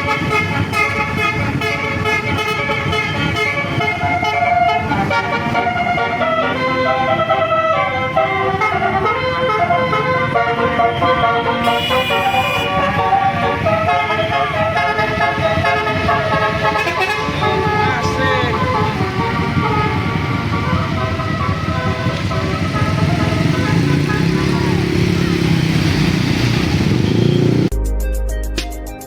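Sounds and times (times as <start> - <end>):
multi-note bus air horn melody: 0.0 - 26.1.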